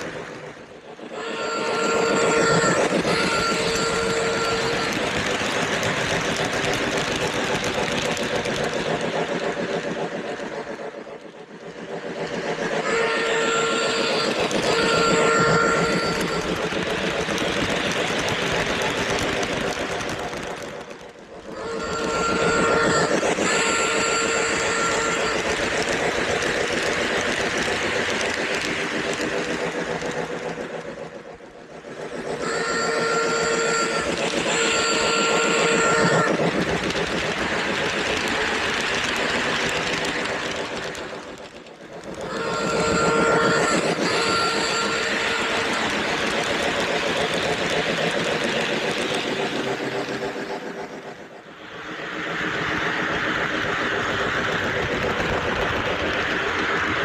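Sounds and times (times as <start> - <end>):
model train rolling rumble: 0.0 - 57.0.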